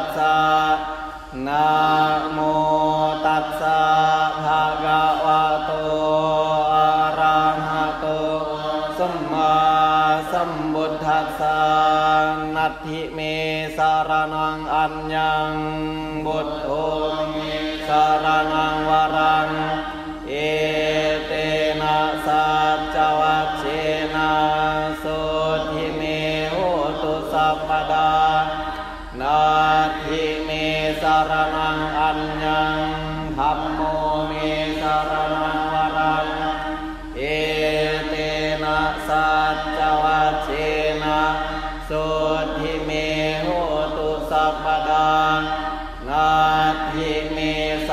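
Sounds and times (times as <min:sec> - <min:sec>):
group chanting: 0:00.0 - 0:47.9.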